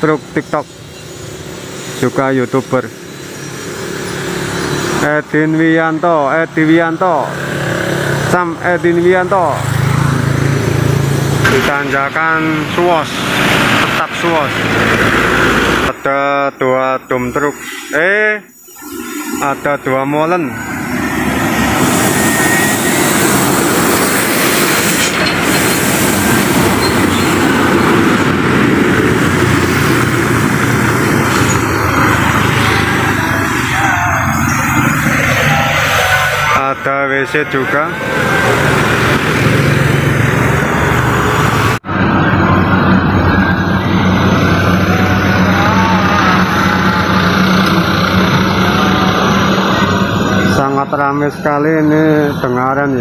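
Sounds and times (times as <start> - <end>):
trucks driving past: 0.0 - 53.0
tyre and road noise: 0.0 - 53.0
vehicle engines droning: 0.0 - 53.0.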